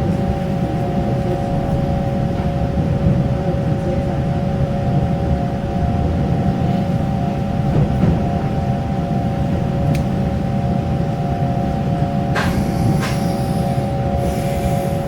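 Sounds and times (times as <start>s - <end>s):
constant multi-tone hum: 0.0s - 15.0s
train rumble: 0.0s - 15.0s.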